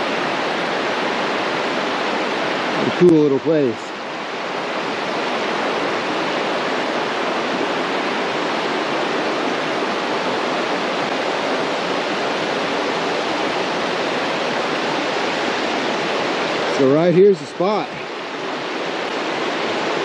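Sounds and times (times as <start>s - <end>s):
water rushing over rapids: 0.0s - 20.0s.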